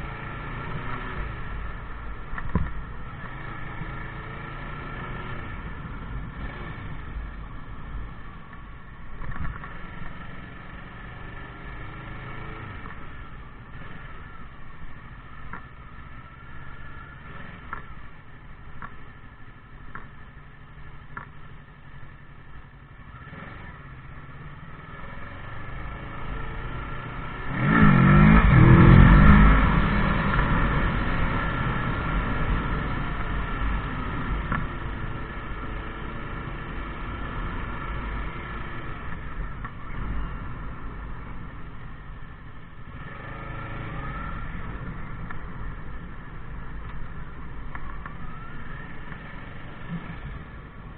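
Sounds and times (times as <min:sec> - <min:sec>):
motorcycle engine revving: 0:00.0 - 0:20.3, 0:21.1 - 0:50.9.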